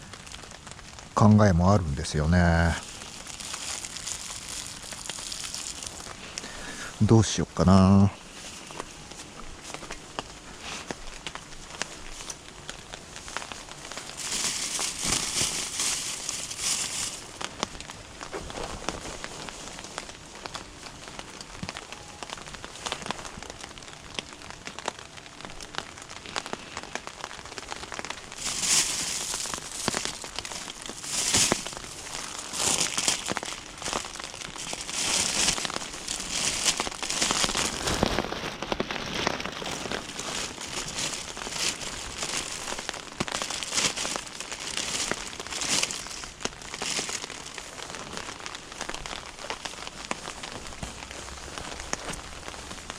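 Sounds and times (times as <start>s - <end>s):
rain pattering on a tarp: 0.0s - 52.9s
rustling: 1.8s - 52.9s.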